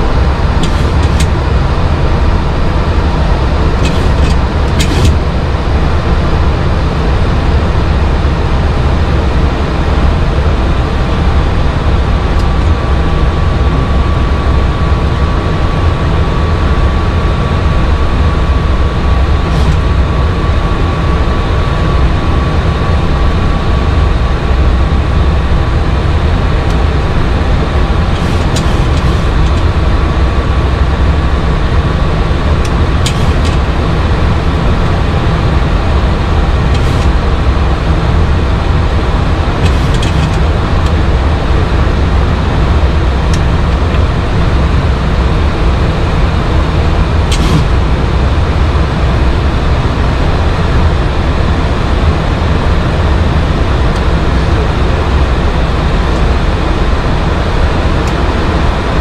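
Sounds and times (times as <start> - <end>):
airflow and engine noise: 0.0 - 59.0.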